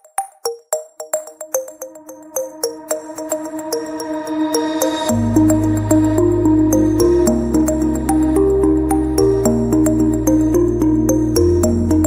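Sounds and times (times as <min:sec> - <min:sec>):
soft new-age melody: 0:00.0 - 0:12.0.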